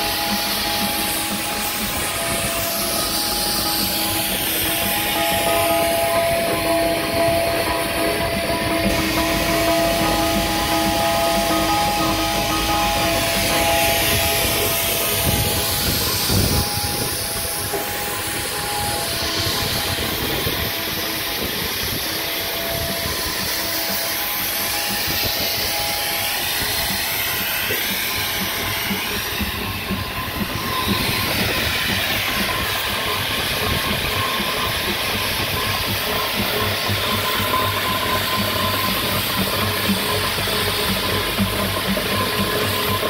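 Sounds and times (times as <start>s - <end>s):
steam engine beat: 0.0s - 43.0s
steam hissing: 0.0s - 43.0s.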